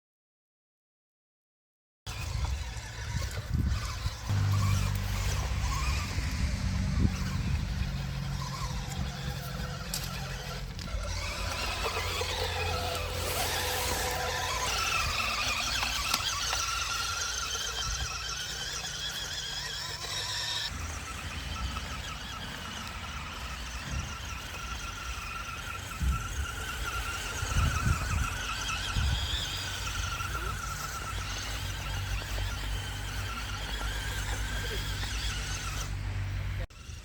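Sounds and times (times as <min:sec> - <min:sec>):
model car motors whining: 0:02.1 - 0:37.0.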